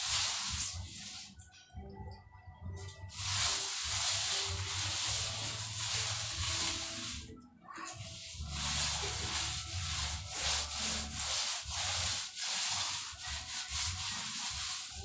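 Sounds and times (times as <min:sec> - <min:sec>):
wet sponge rubbing plaster wall: 0:00.0 - 0:01.4, 0:03.1 - 0:15.0.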